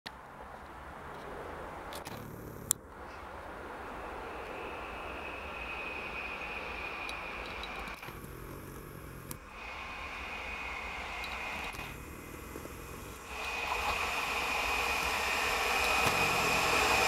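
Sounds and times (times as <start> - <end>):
faint high whine: 2.0 - 17.0
train wheels rumbling on rail: 2.8 - 17.0.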